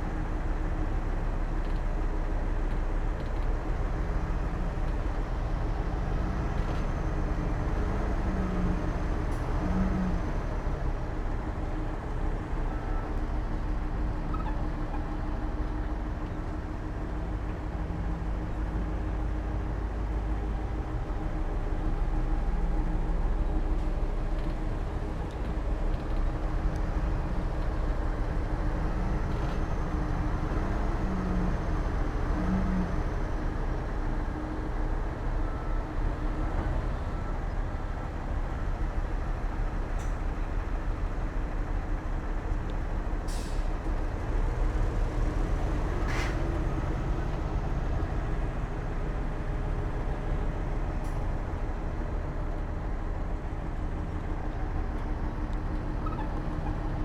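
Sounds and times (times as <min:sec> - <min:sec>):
diesel engines rumbling: 0:00.0 - 0:57.0.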